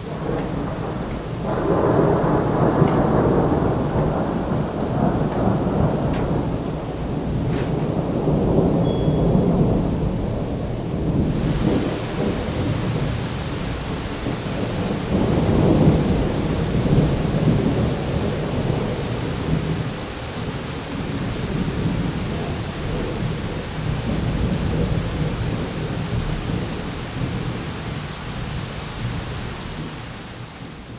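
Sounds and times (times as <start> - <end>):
steady rain: 0.0 - 30.9
thunder rumbling: 0.0 - 30.9.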